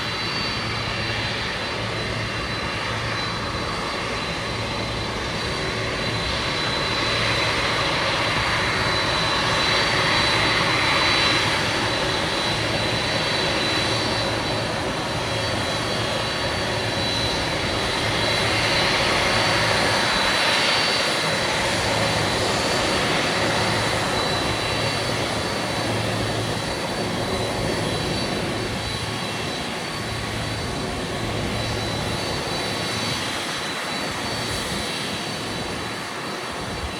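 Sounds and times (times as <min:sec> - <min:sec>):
jet engines running: 0:00.0 - 0:36.9.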